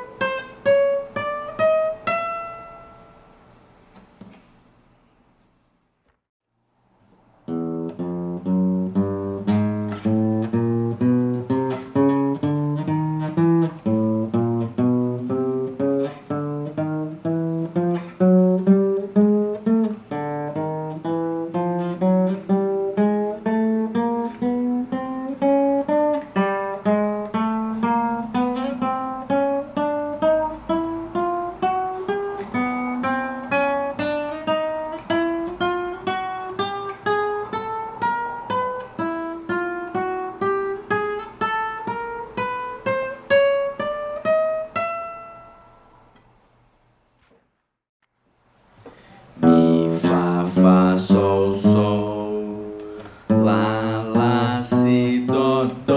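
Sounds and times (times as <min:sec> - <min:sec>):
acoustic guitar plucked notes: 0:00.0 - 0:03.3, 0:07.4 - 0:46.3, 0:48.9 - 0:55.9.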